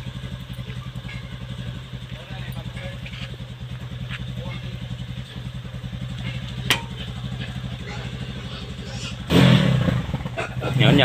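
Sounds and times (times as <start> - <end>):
small motorcycle engine idling: 0.0 - 11.0.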